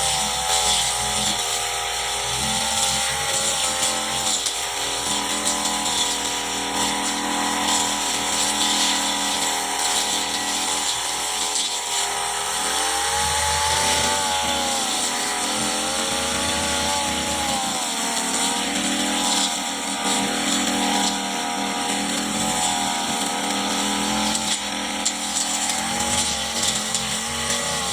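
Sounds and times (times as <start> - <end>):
brush cutter engine cutting grass: 0.0 - 27.9.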